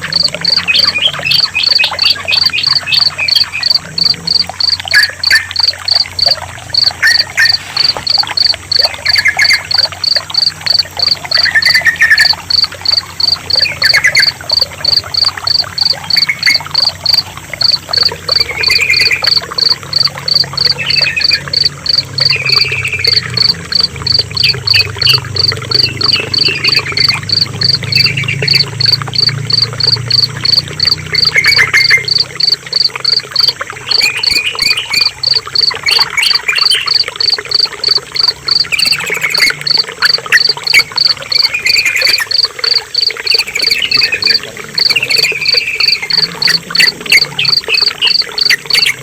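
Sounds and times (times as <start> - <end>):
bulbul song: 0.0 - 49.0
cricket chirping: 0.0 - 49.0
trickling water: 0.0 - 49.0.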